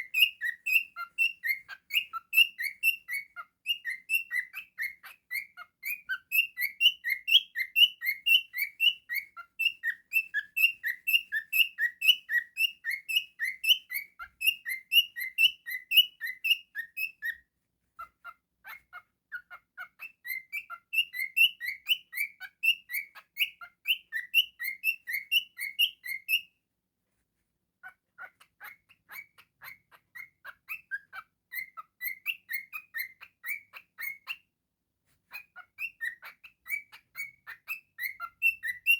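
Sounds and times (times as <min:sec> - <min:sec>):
cockatiel chirping: 0:00.0 - 0:26.6, 0:27.8 - 0:34.5, 0:35.3 - 0:38.9.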